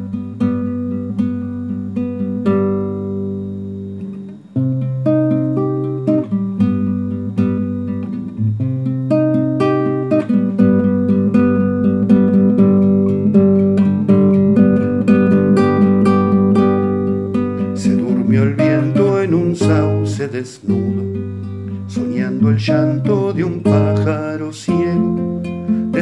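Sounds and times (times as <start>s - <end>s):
classical guitar playing: 0.0s - 26.0s.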